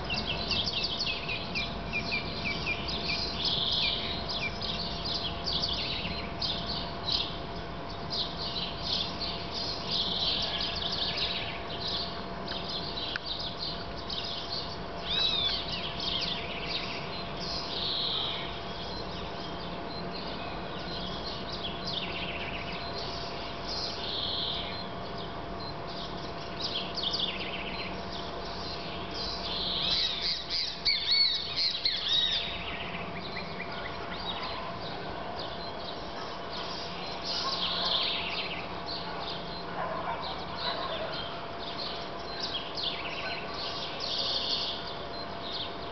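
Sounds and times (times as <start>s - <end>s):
birds chirping: 0.0s - 45.9s
faint hum: 0.0s - 45.9s.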